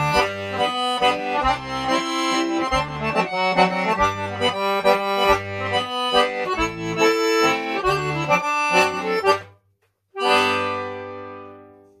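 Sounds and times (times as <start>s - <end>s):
accordion playing mazurka: 0.0s - 9.6s, 10.2s - 11.8s.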